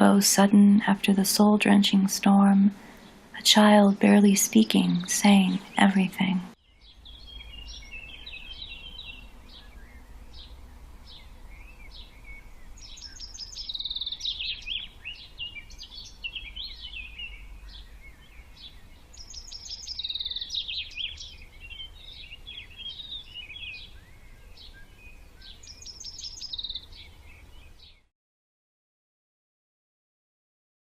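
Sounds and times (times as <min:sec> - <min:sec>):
birds chirping and singing: 0:00.0 - 0:28.1.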